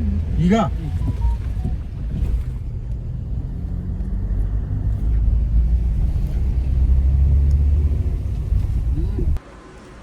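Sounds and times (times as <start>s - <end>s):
car rumbling on the move: 0.0s - 10.0s.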